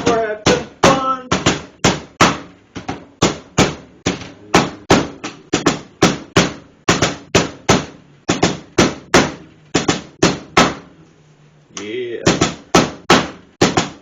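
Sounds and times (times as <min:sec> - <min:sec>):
mallet pounding meat: 0:00.0 - 0:10.9, 0:12.3 - 0:14.0.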